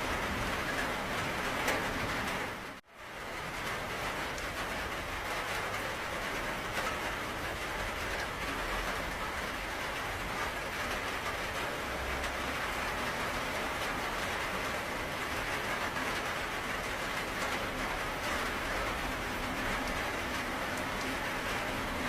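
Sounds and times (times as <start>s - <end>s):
steady rain hissing: 0.0s - 22.0s
raindrop ticks: 3.5s - 22.0s.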